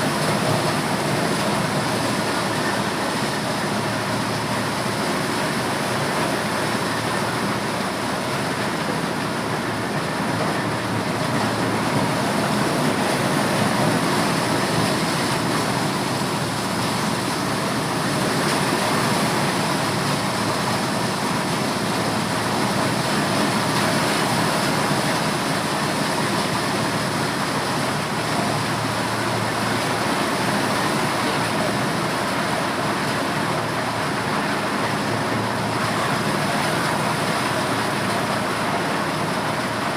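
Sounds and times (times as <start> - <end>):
motorized corn sheller running: 0.0 - 39.9.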